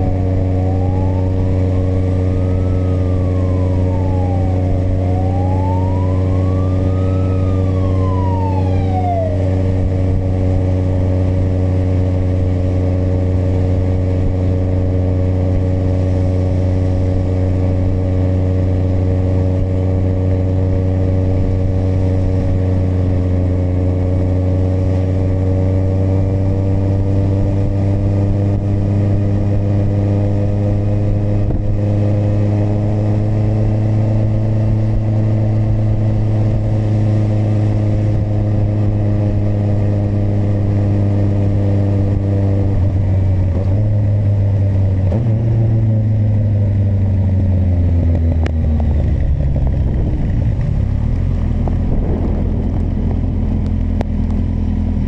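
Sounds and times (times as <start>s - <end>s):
motorcycle engine cruising and slowing: 0.0s - 55.0s.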